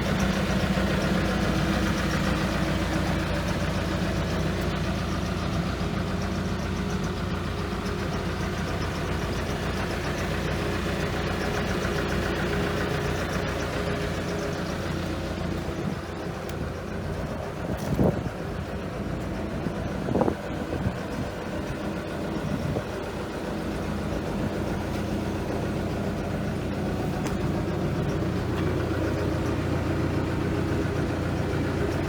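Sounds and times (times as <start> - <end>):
excavator diesel engine idling: 0.0 - 32.0.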